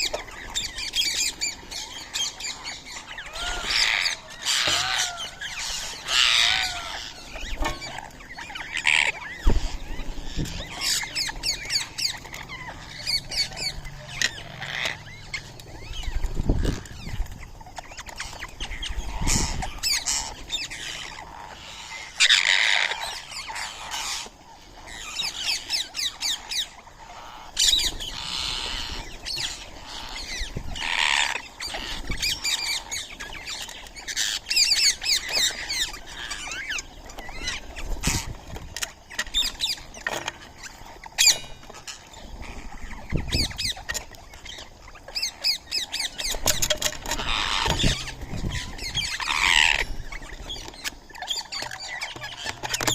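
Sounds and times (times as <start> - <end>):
parrots squawking and chirping: 0.0 - 52.9.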